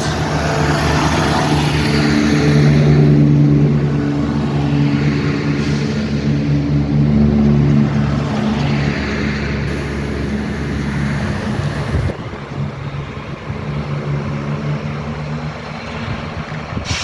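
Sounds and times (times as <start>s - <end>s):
train engine droning: 0.0s - 17.0s.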